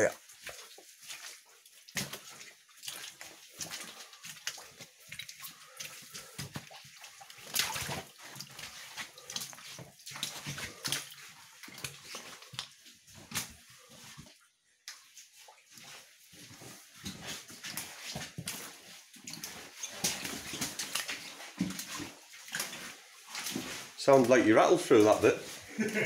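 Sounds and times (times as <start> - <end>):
footsteps splashing through water: 0.0 - 26.0.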